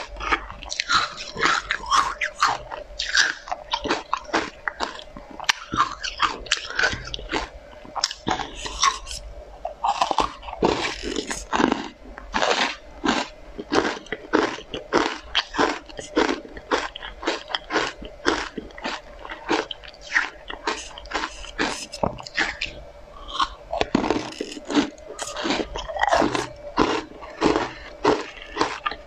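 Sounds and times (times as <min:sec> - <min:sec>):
crunchy candy chewing: 0:00.0 - 0:29.0.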